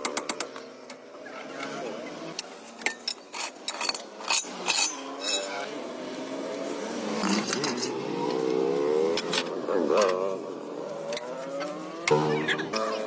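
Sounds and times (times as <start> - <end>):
sharp metallic clinks and knocks: 0.0 - 13.0.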